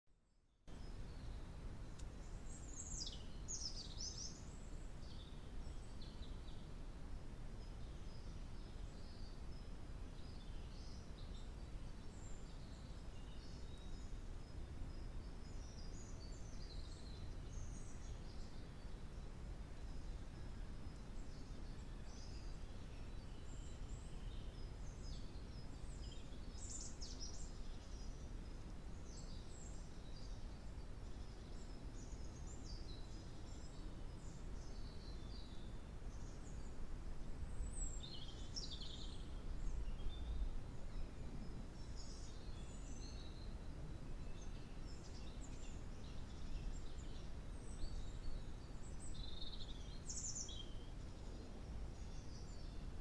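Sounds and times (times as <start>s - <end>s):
small birds chirping: 0.7s - 53.0s.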